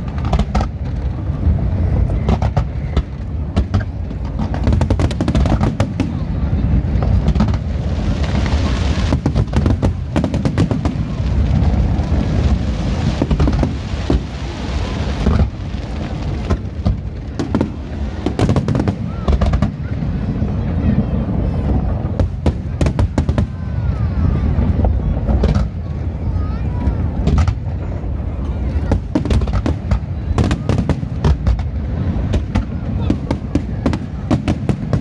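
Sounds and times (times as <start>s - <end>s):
deep rumble: 0.0s - 35.0s
fireworks bangs and crackling: 0.0s - 35.0s.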